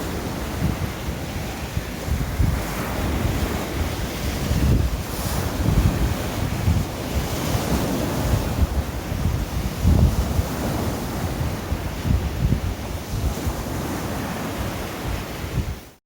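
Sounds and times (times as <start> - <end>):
surf washing on shore: 0.0 - 16.0
wind buffeting microphone: 0.0 - 16.0.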